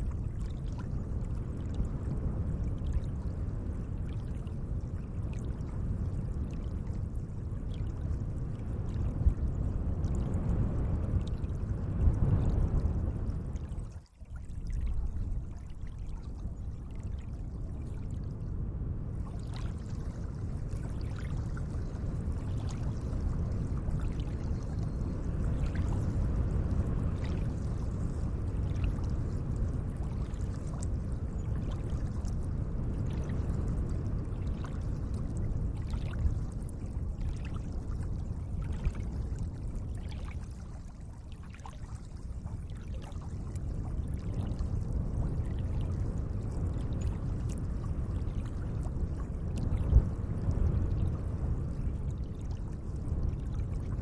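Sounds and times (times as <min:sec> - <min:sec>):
small water splashes and drips: 0:00.0 - 0:18.4, 0:19.1 - 0:53.9.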